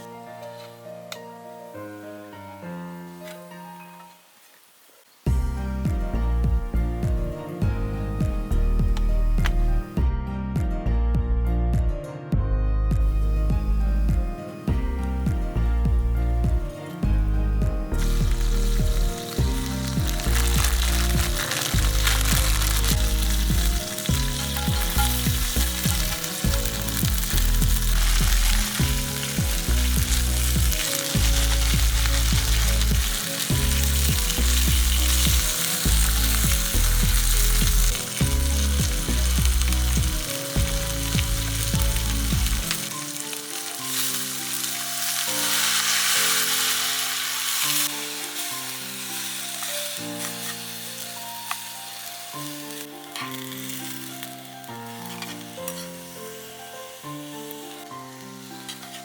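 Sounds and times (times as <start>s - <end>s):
background music: 0.0s - 4.2s, 5.3s - 59.0s
noodles sizzling in a pot: 0.0s - 9.9s, 13.2s - 59.0s.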